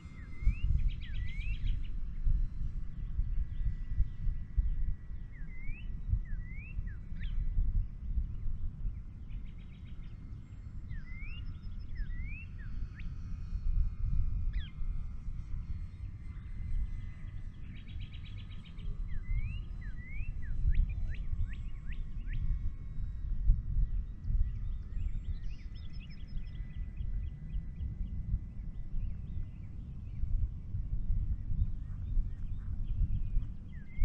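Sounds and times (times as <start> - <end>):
songbird singing: 0.0 - 13.3, 14.0 - 34.0
wind rumble on microphone: 0.0 - 34.0.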